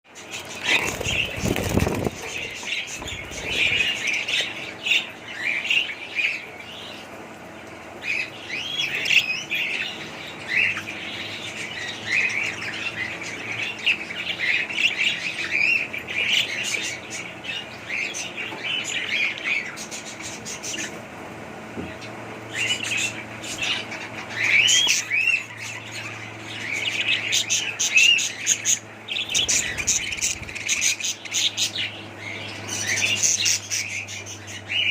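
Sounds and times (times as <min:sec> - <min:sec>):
budgerigars chirping and warbling: 0:00.1 - 0:34.9.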